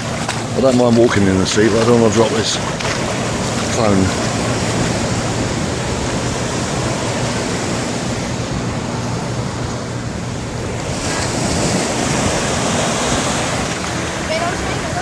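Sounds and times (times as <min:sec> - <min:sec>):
surf rushing: 0:00.0 - 0:15.0
wind buffeting microphone: 0:00.0 - 0:15.0.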